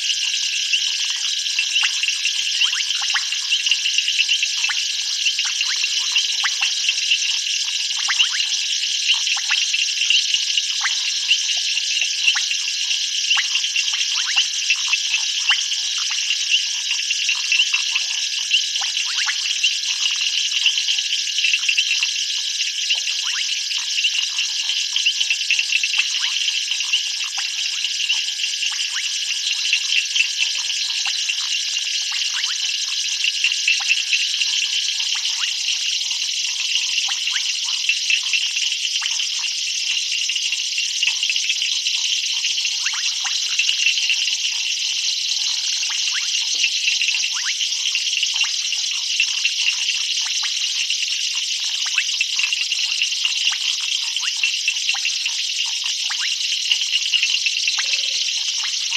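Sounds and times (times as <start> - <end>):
night chorus of frogs and insects: 0.0 - 58.9.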